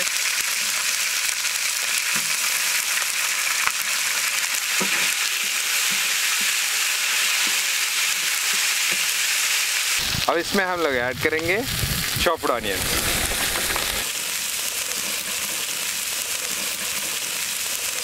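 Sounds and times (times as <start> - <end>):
oil sizzling in metal pot: 0.0 - 18.0.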